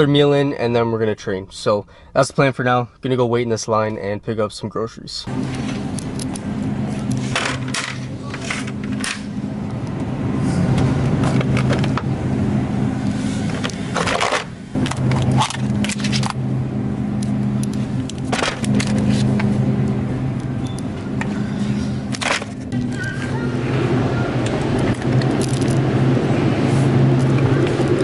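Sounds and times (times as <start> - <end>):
steady low hum: 1.1 - 28.0.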